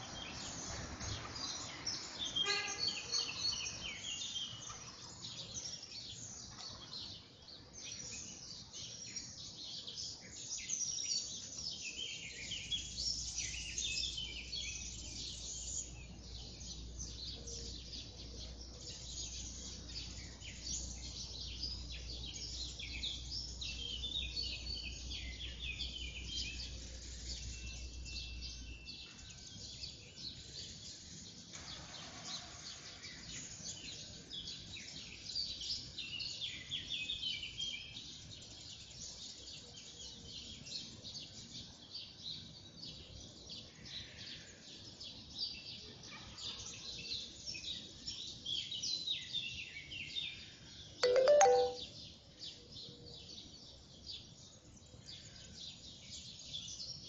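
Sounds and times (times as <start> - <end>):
songbirds singing and chirping: 0.0 - 31.9, 32.7 - 45.8, 46.7 - 57.0.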